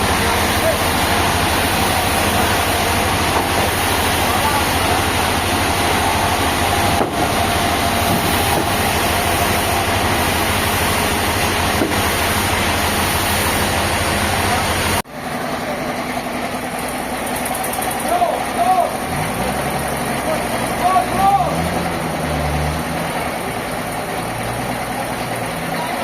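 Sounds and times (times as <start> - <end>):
heavy engine rumbling: 0.0 - 26.0
machine running: 0.0 - 26.0.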